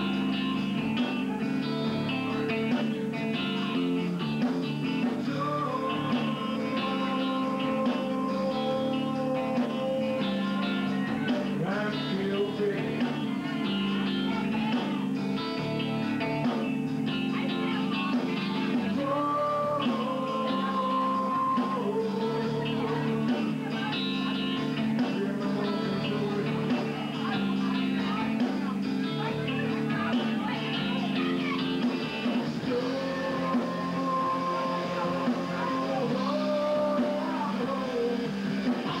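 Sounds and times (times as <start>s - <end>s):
lead guitar holding long notes: 0.0s - 39.0s
live rock band playing: 0.0s - 39.0s.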